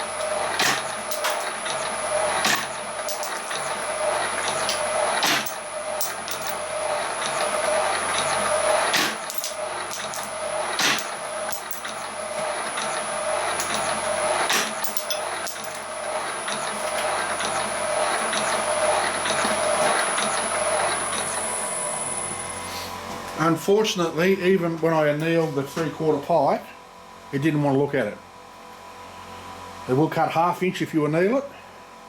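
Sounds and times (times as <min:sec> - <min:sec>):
crusher machine humming: 0:00.0 - 0:26.5.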